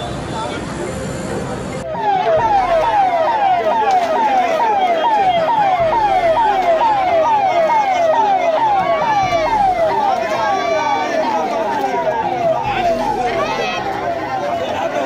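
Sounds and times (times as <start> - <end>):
ambulance siren wailing: 1.8 - 15.0.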